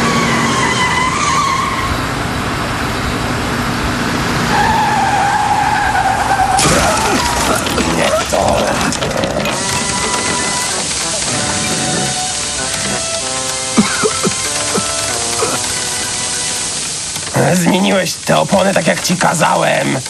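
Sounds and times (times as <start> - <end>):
tyres squealing: 0.0 - 2.3, 4.4 - 20.0
cartoon van engine: 0.0 - 20.0.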